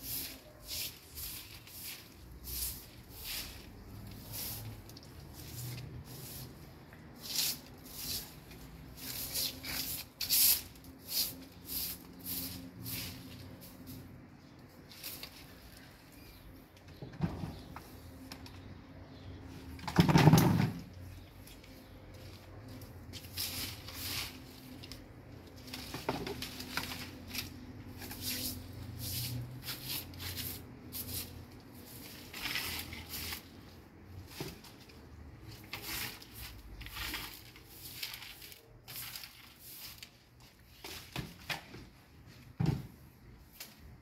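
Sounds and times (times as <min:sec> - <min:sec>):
broom sweeping concrete floor: 0:00.0 - 0:16.4, 0:21.1 - 0:44.0.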